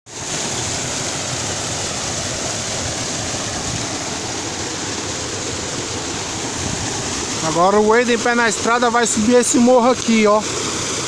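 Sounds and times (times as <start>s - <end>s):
waterfall and river rushing: 0.1s - 11.0s.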